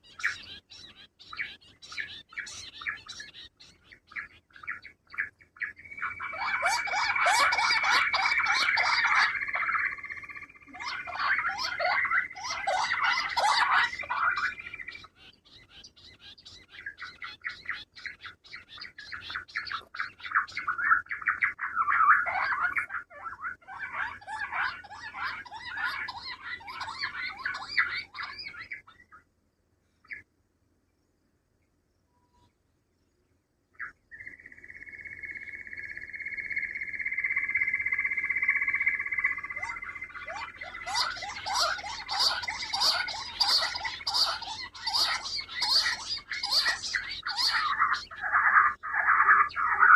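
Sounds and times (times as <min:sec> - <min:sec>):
quails chirping: 0:00.0 - 0:29.2, 0:33.8 - 0:49.9.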